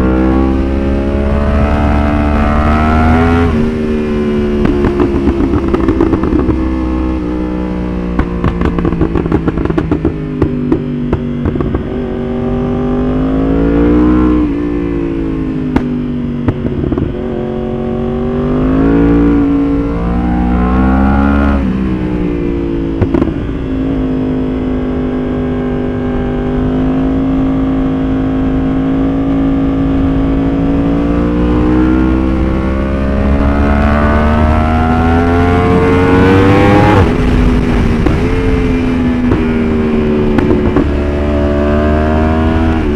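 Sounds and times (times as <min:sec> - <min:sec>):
exhaust pops and crackles: 0:00.0 - 0:12.5, 0:15.1 - 0:17.6, 0:18.3 - 0:24.0, 0:28.9 - 0:42.9
motorcycle engine revving: 0:00.0 - 0:42.9.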